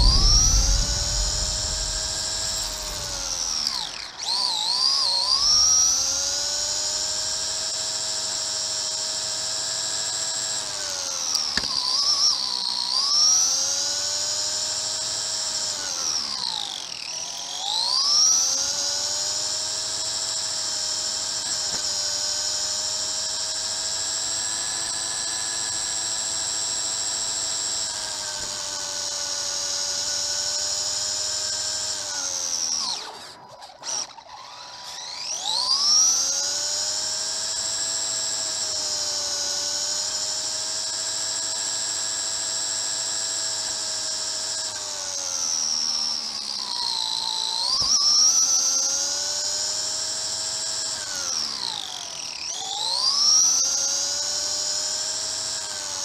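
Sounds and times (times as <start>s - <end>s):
electric motor and gears whining: 0.0s - 56.0s.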